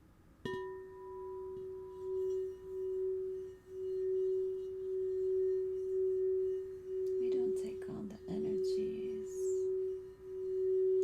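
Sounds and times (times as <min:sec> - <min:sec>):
singing bowl ringing: 0:00.4 - 0:11.0.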